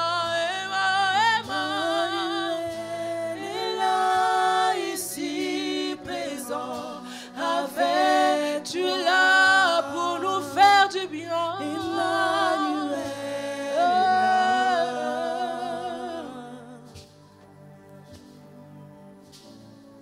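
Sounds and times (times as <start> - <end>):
voices singing worship: 0.0 - 17.5.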